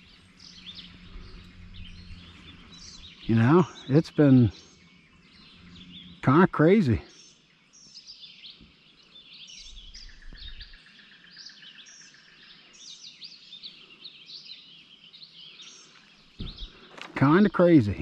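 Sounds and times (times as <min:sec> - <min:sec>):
songbirds chirping and singing: 0:00.0 - 0:18.0.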